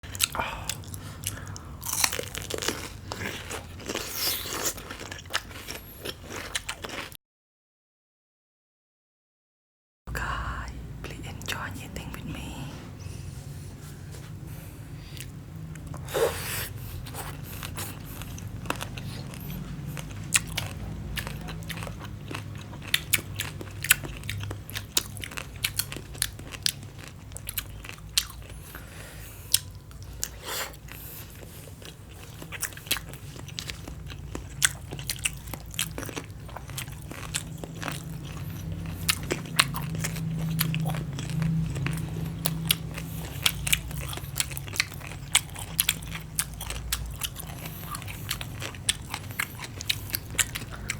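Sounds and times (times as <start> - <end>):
crunchy chewing: 0.0 - 7.2, 14.5 - 50.9.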